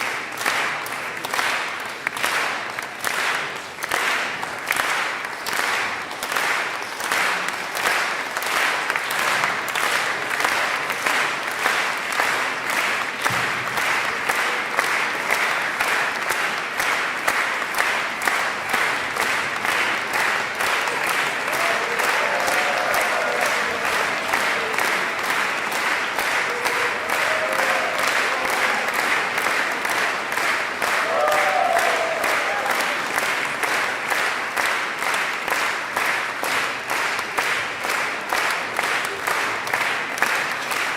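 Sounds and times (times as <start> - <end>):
audience clapping in unison: 0.0 - 40.9.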